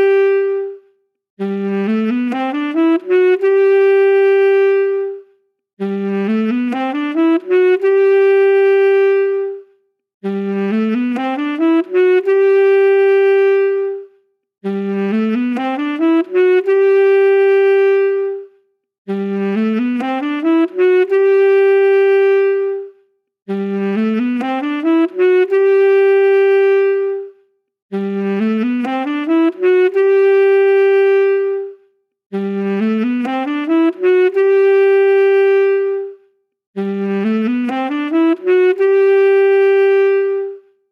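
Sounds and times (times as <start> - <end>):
saxophone playing a phrase: 0.0 - 0.8, 1.4 - 5.2, 5.8 - 18.5, 19.1 - 27.3, 27.9 - 36.2, 36.8 - 40.7.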